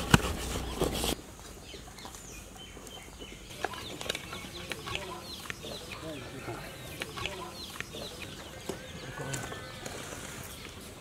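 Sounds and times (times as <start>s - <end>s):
chickens clucking and chirping: 0.2s - 11.0s.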